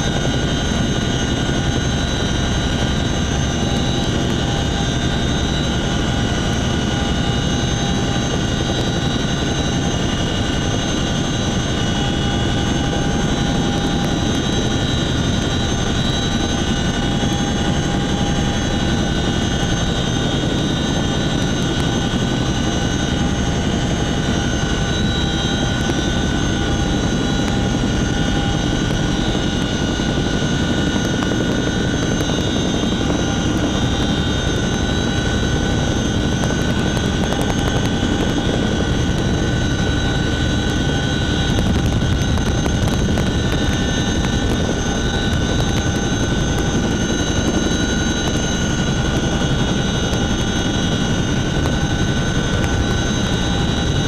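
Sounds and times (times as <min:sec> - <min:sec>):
helicopter rotor and turbine drone: 0:00.0 - 0:54.0.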